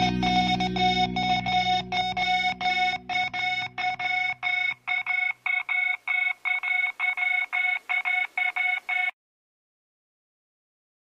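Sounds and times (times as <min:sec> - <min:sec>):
short electronic beeps: 0:00.0 - 0:09.2.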